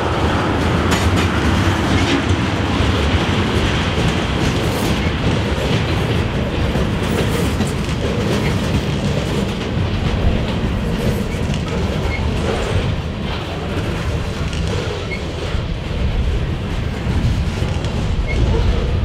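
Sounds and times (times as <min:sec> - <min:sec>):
freight train wheels clicking: 0:00.0 - 0:19.0
train rumble: 0:00.0 - 0:19.0.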